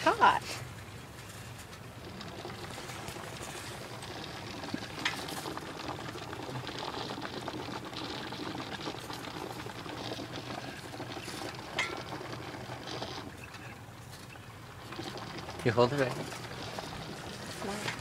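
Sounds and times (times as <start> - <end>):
coolant bubbling and crackling: 0.0 - 18.0.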